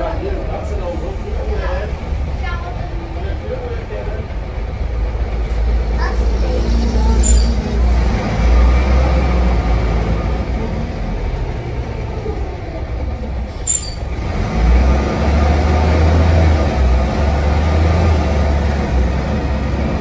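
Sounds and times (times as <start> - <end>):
bus engine rumble: 0.0 - 20.0
road noise: 0.0 - 20.0.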